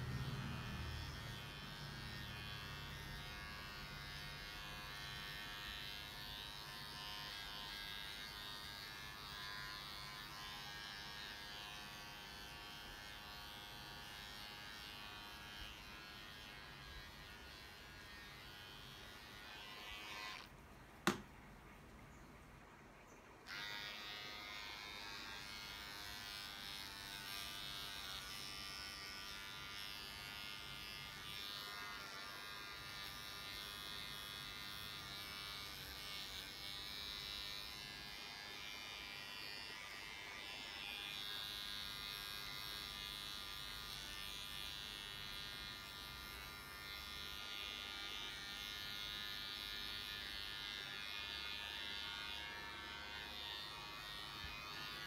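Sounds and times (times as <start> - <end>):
electric clippers buzzing: 0.0 - 20.5, 21.1 - 21.3, 23.4 - 55.0.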